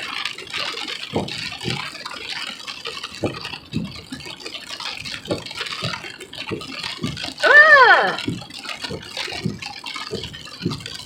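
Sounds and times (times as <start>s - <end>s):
heavy rain on car windshield: 0.0s - 11.0s.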